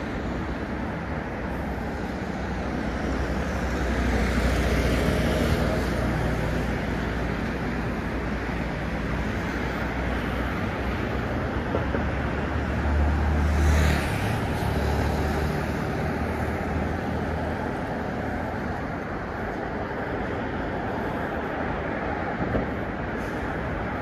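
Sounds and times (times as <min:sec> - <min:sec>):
city road traffic: 0:00.0 - 0:24.0.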